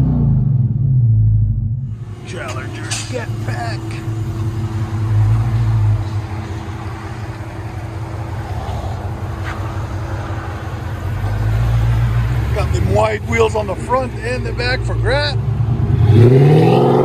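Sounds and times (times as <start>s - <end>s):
low exhaust rumble: 0.0s - 17.0s
car engine idling: 0.6s - 16.4s.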